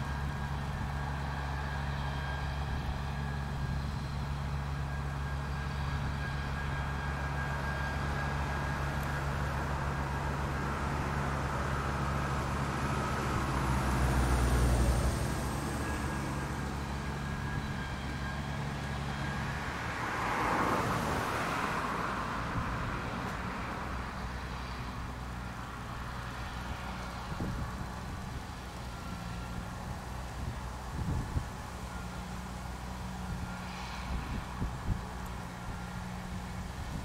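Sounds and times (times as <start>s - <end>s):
harvester diesel engine hum: 0.0s - 37.0s.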